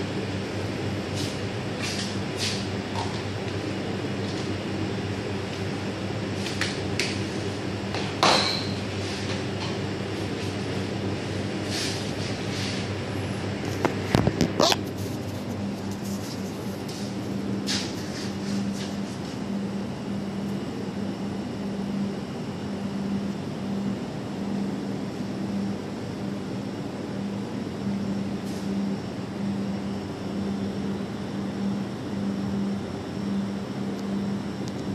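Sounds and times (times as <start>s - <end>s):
kitchen machinery hum: 0.0s - 34.9s.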